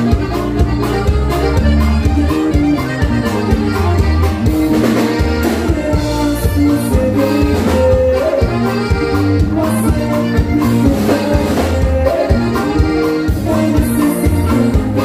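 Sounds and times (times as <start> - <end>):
dance band with accordion: 0.0 - 15.0
repeating bass line: 0.0 - 15.0.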